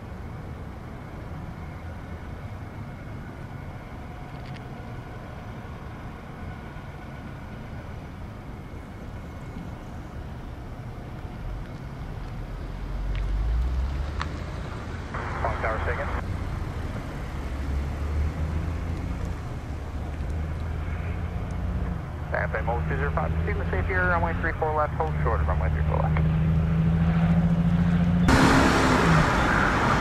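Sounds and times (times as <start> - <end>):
jet engines rumbling with whine: 0.0 - 30.0.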